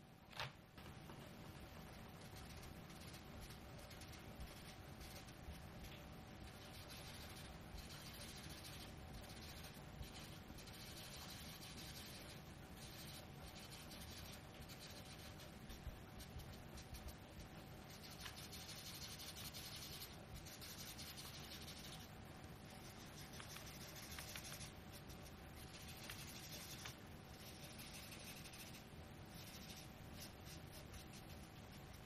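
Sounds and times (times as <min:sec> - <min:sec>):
cotton pad rubbing pastel on paper: 0:01.9 - 0:32.0.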